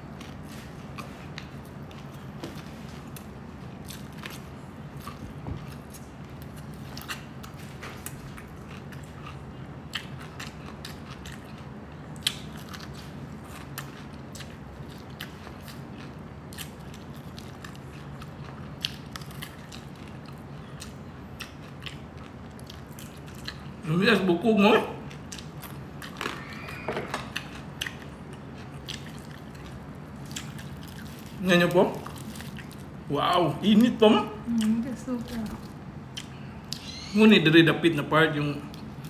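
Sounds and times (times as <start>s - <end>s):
crunchy chewing: 0.0s - 23.9s, 24.8s - 37.1s
steady low hum: 0.0s - 39.0s.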